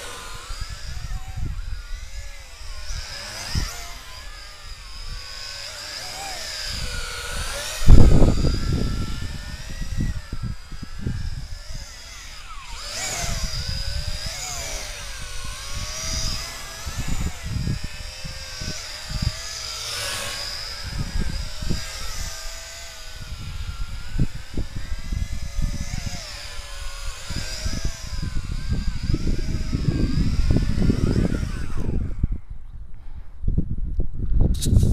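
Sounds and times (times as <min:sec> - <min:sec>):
drone motors whining: 0:00.0 - 0:33.4
wind buffeting microphone: 0:00.0 - 0:34.9.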